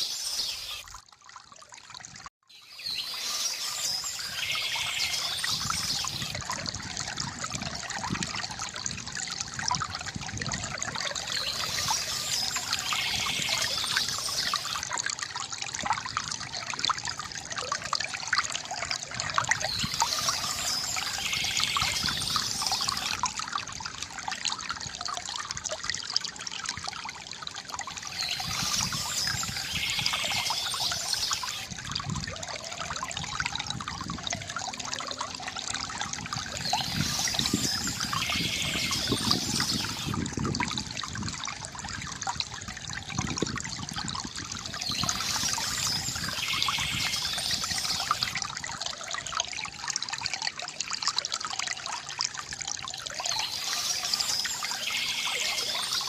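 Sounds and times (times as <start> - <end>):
fountain water trickling and gurgling: 0.0 - 56.0
small water splashes: 0.0 - 56.0.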